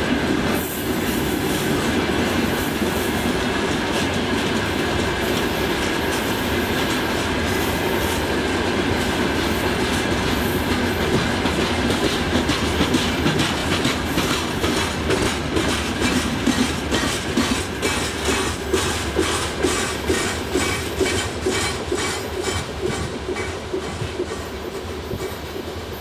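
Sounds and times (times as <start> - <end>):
freight train rumbling: 0.0 - 26.0
wheels clacking on rail joints: 0.1 - 25.8.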